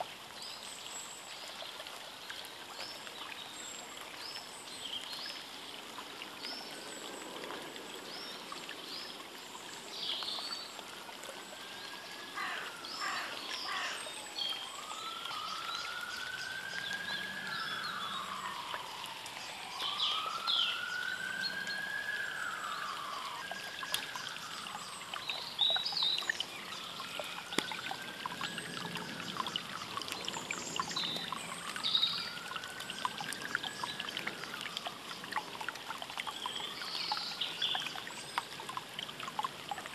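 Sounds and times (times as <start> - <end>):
songbirds chirping: 0.3 - 39.9.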